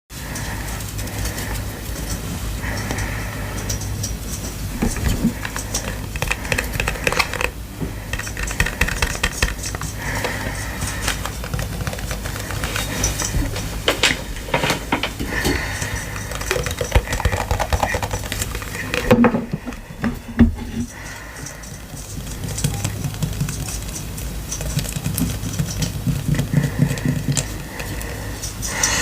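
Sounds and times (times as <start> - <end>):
steady low hum: 0.1 - 29.0.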